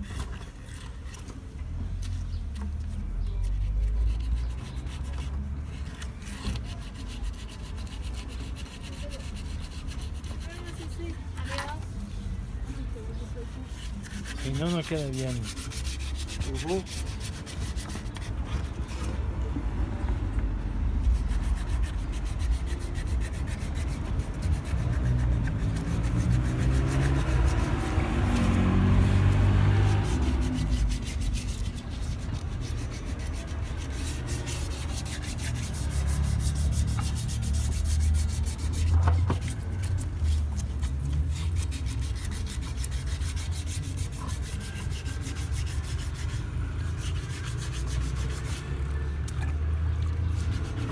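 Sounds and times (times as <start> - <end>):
sandpaper scrubbing metal rim: 2.9 - 11.5, 13.2 - 19.2, 21.0 - 50.9.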